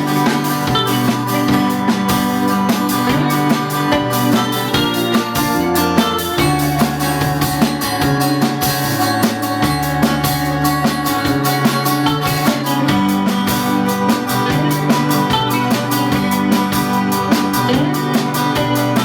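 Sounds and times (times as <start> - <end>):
drum kit steady beat: 0.0 - 19.0
guitar: 0.0 - 19.0
held low bass notes: 0.0 - 19.0.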